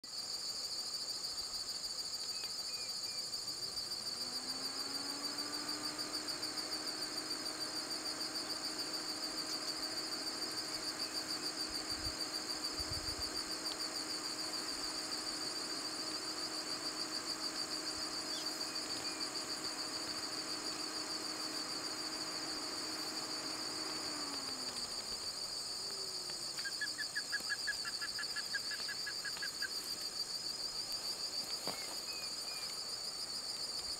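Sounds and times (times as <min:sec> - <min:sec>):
insects chorus: 0:00.0 - 0:33.9.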